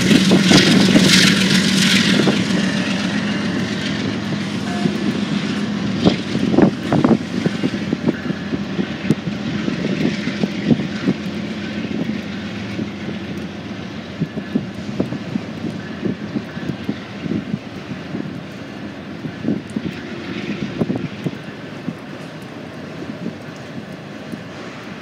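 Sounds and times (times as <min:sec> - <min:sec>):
freight train cars rumbling past: 0:00.0 - 0:25.0.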